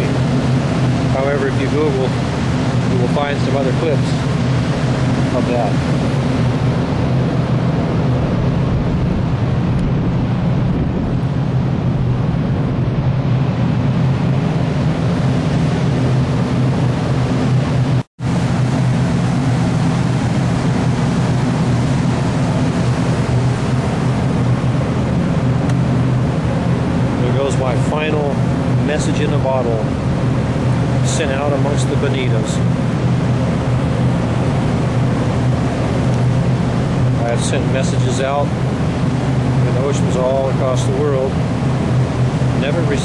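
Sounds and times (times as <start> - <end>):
ship machinery drone: 0.0 - 43.0.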